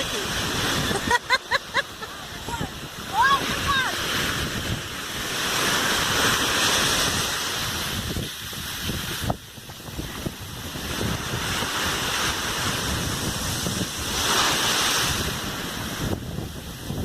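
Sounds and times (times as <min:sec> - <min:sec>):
ocean surf washing onto beach: 0:00.0 - 0:17.0
wind buffeting microphone: 0:00.0 - 0:17.0.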